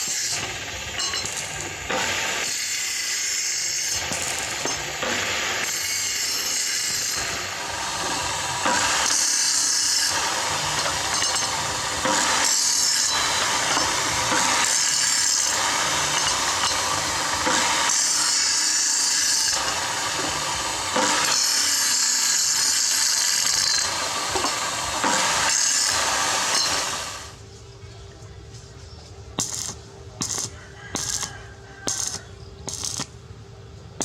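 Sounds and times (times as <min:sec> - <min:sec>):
power tool working steel: 0:00.0 - 0:27.4, 0:29.4 - 0:33.2.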